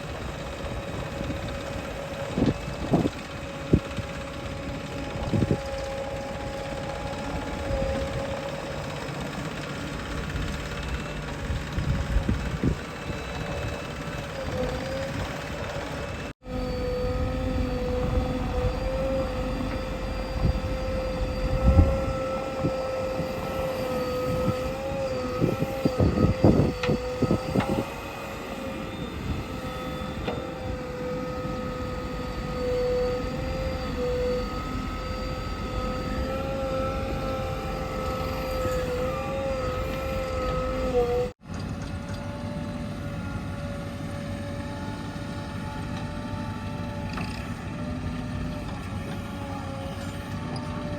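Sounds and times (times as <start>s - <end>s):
heavy machine engine whining: 0.0s - 50.9s.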